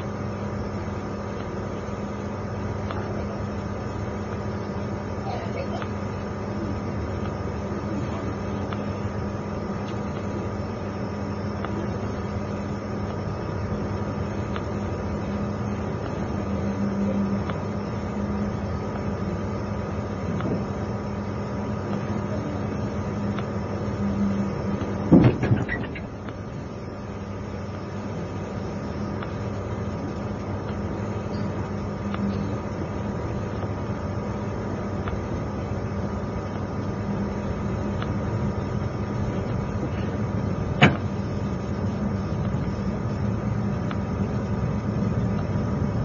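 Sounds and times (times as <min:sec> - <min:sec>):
train coach interior hum: 0:00.0 - 0:46.0.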